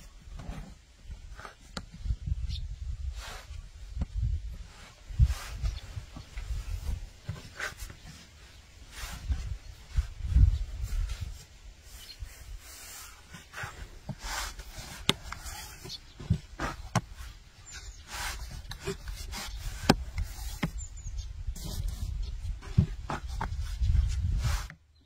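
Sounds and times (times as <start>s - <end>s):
soft rubbing and scraping: 3.1s - 24.8s.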